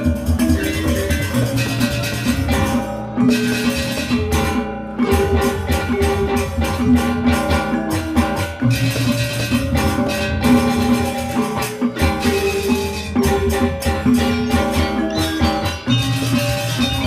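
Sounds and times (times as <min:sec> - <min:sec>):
barrel drums: 0:00.0 - 0:17.0
gamelan playing: 0:00.0 - 0:17.0
metallophones striking: 0:00.0 - 0:17.0.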